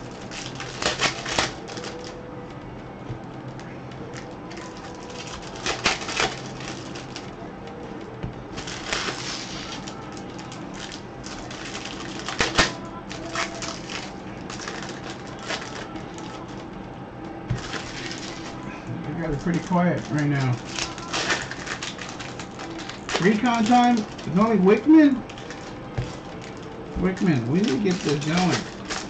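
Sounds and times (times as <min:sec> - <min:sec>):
wrappers crinkling and tearing: 0:00.0 - 0:02.2, 0:04.0 - 0:16.8, 0:17.5 - 0:29.0
cards being shuffled: 0:03.1 - 0:16.8, 0:17.5 - 0:18.6, 0:19.3 - 0:29.0.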